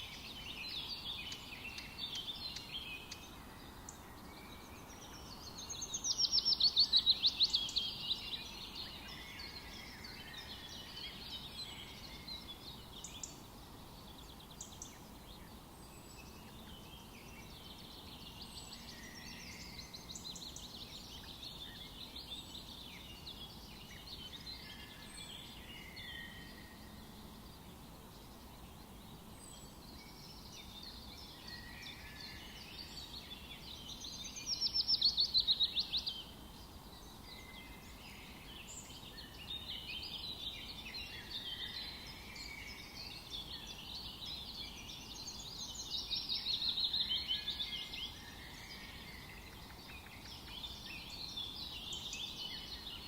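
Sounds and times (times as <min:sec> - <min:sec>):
bird song of rapid notes: 0:00.0 - 0:53.0
forest birds singing: 0:00.0 - 0:53.0.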